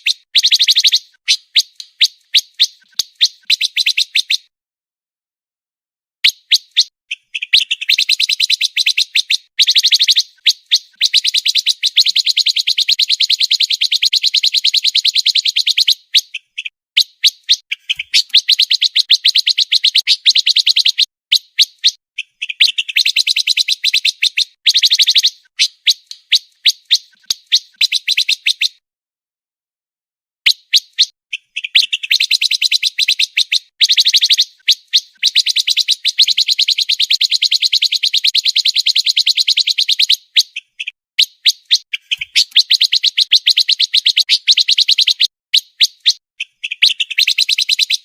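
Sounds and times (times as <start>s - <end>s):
bird singing high chirps: 0.0s - 4.5s, 6.2s - 28.8s, 30.5s - 48.0s.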